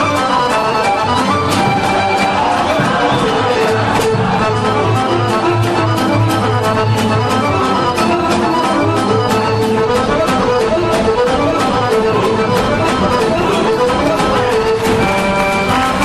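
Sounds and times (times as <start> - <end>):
folk dance music: 0.0 - 16.0.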